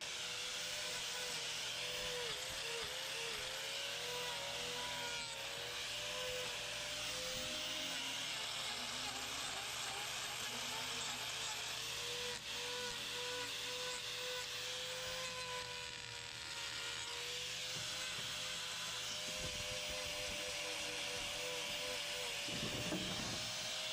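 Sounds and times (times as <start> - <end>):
angle grinder grinding hoof: 0.0 - 23.9.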